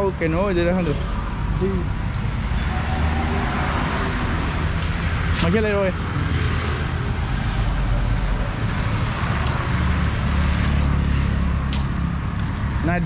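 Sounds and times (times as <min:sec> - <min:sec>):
passing car engines and tyres: 0:00.0 - 0:13.0.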